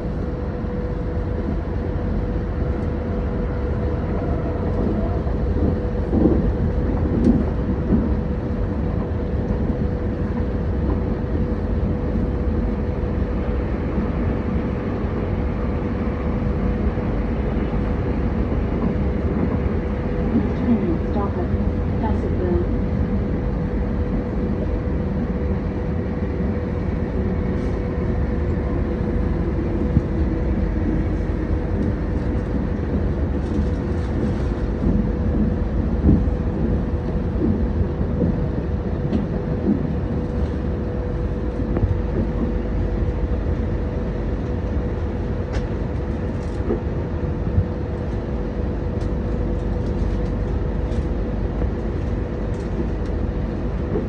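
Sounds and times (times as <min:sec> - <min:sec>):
train rumbling on track: 0:00.0 - 0:54.0
train whine: 0:00.0 - 0:54.0.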